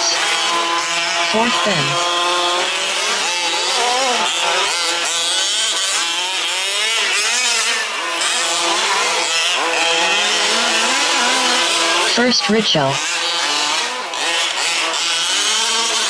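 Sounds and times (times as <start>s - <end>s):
small engines revving and buzzing: 0.0s - 16.0s.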